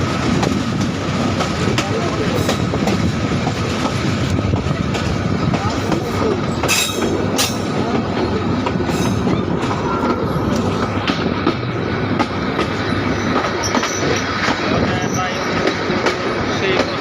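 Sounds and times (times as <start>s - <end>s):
train wheels rumbling on rails: 0.0s - 17.0s
wheels clacking over rail joints: 0.0s - 17.0s.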